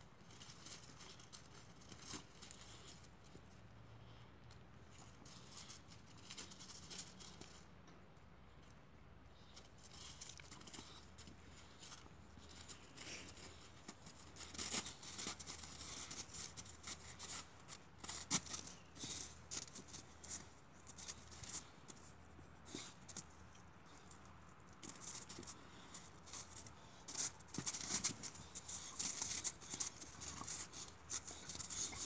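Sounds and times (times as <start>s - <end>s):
paws crunching on crusty snow: 0.0s - 3.6s, 4.8s - 7.7s, 9.3s - 32.0s.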